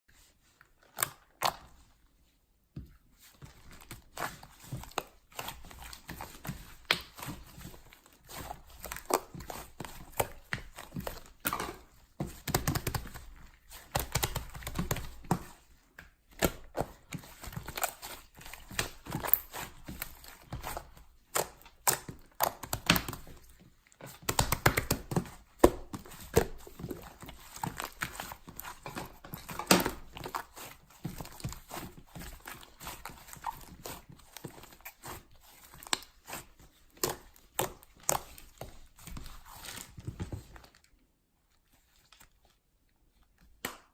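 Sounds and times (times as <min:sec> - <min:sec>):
objects being handled: 0:02.7 - 0:43.8.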